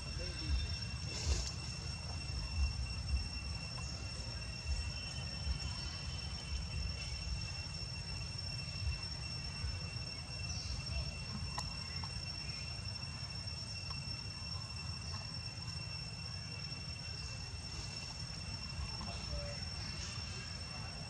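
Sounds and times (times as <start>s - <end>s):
high-pitched insect drone: 0.0s - 21.0s
low steady rumble: 0.0s - 21.0s.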